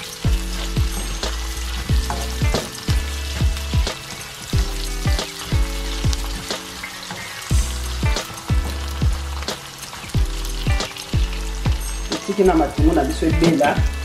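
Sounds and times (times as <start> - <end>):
music with deep bass: 0.0 - 6.7, 7.5 - 14.0
onions sizzling in oil: 0.0 - 14.0.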